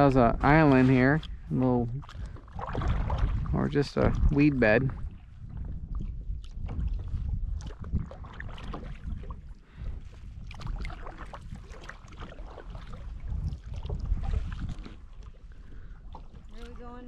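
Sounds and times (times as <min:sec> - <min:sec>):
water splashing around kayak: 0:00.0 - 0:17.0
wind rumble on microphone: 0:00.0 - 0:17.0.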